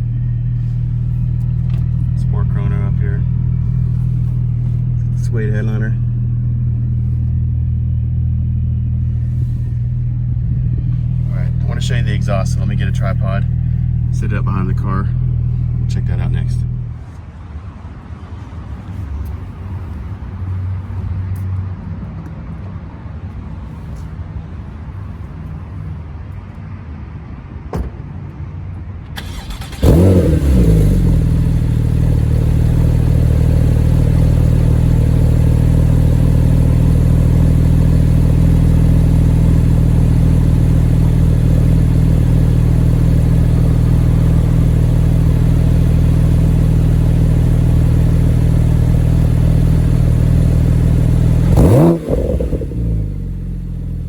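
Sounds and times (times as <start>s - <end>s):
sports car engine idling and revving: 0.0s - 27.7s, 28.3s - 54.0s.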